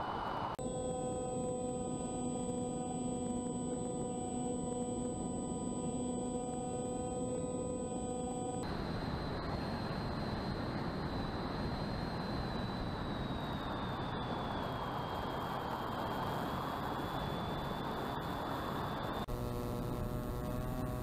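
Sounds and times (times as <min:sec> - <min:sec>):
wind and propeller noise: 0:00.0 - 0:20.3
high motor whine: 0:00.0 - 0:21.0.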